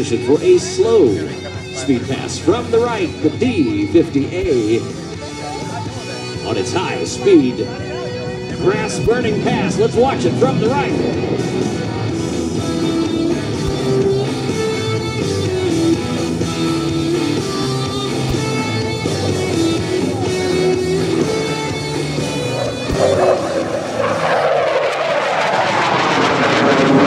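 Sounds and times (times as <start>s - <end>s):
guitar rock music: 0.0s - 27.0s
jet passing low: 0.0s - 27.0s.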